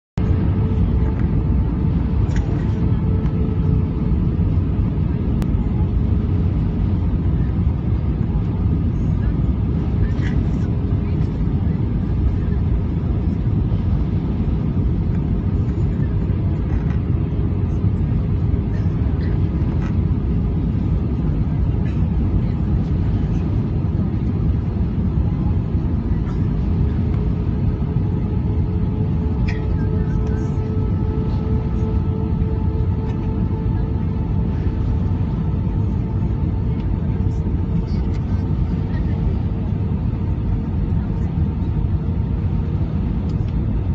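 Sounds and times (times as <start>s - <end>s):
airliner engine rumble in cabin: 0.0s - 43.9s.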